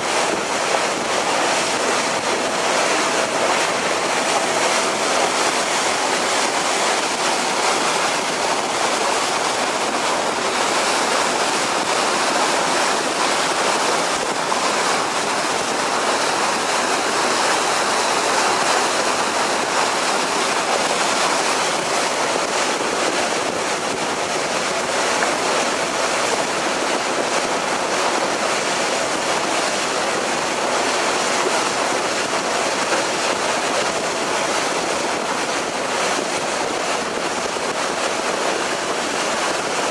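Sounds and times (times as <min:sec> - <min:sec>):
water rushing along ferry hull: 0:00.0 - 0:39.9.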